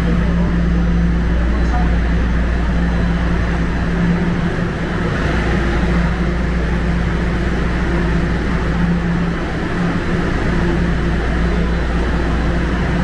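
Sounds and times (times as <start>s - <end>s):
subway train electric hum: 0.0s - 13.0s
train running noise: 0.0s - 13.0s.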